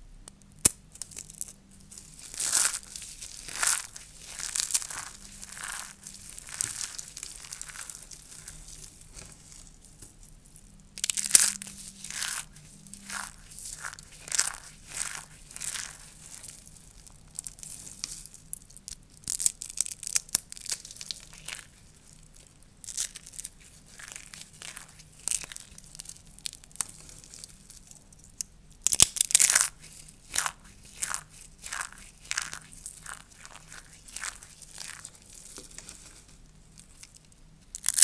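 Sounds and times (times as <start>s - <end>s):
dry soap crunching and crackling: 0.3s - 38.0s.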